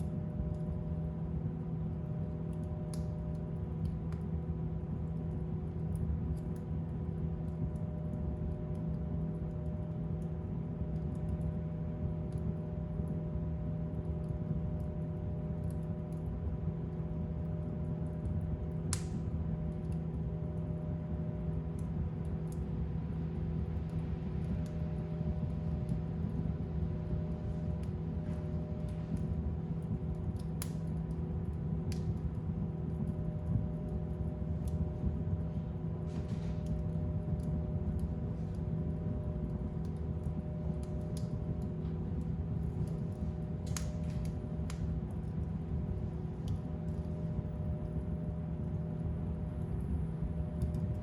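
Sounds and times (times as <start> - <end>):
fire crackles and pops: 0.0 - 51.0
fireplace fire rumbling: 0.0 - 51.0.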